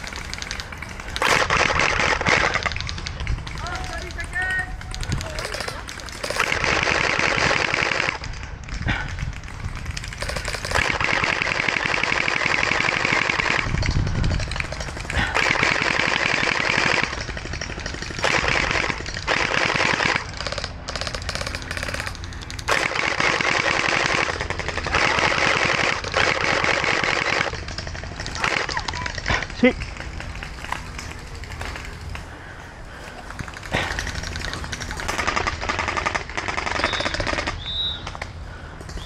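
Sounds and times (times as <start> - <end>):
gel blaster firing full-auto: 0.0 - 8.3, 9.8 - 30.3, 33.6 - 37.9.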